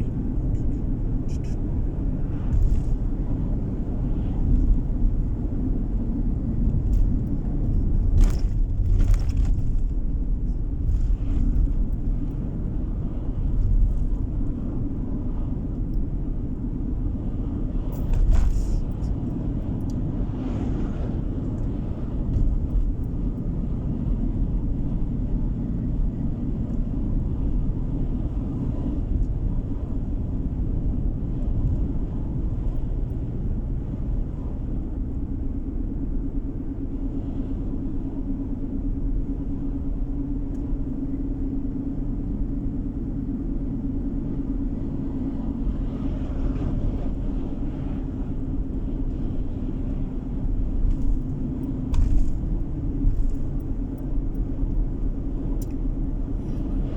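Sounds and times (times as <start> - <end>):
tyre and engine rumble: 0.0 - 56.9.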